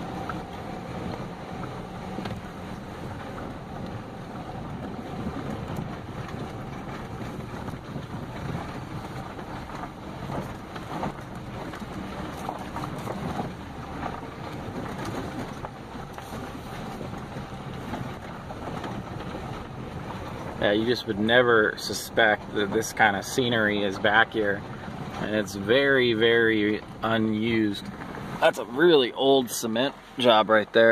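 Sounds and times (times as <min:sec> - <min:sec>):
engine and tyres rumbling on dirt: 0:00.0 - 0:30.9.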